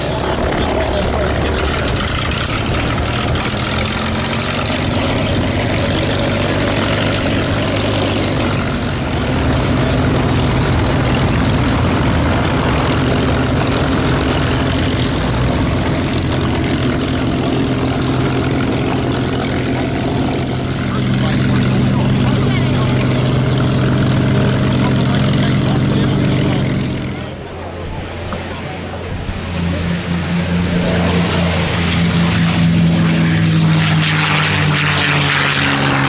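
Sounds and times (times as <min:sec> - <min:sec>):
propeller aircraft engine idling: 0:00.0 - 0:36.0.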